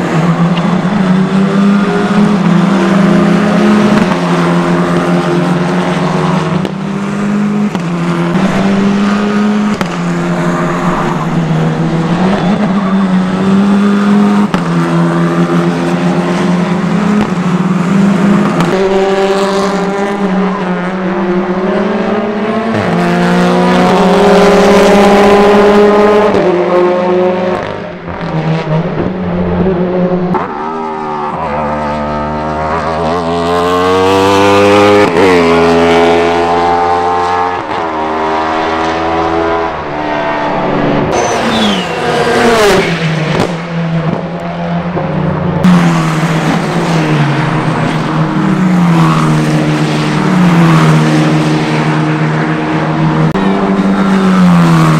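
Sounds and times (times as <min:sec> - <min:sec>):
racing car engines passing: 0:00.0 - 0:54.9.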